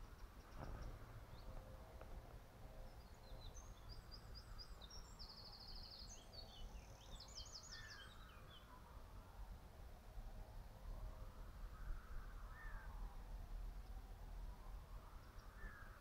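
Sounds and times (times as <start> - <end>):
songbird chirping and trilling: 0.0 - 9.2, 11.7 - 14.0, 14.6 - 16.0
low steady background rumble: 0.0 - 16.0.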